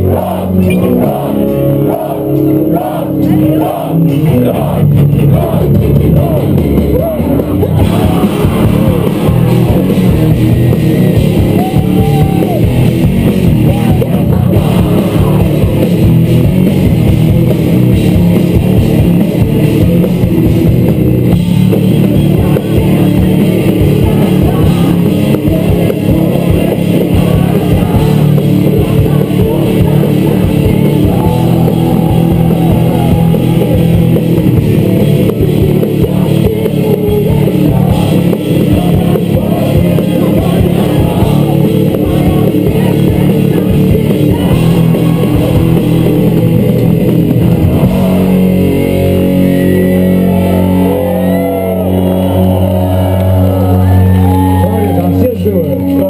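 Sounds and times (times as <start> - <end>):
distorted electric guitars: 0.0 - 56.0
drum kit: 2.8 - 55.0.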